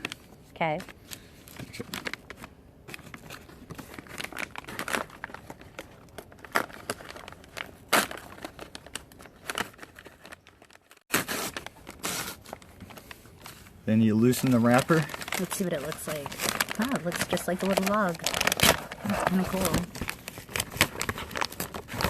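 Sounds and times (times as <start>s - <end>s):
wrapper tearing and crinkling: 1.5s - 22.0s.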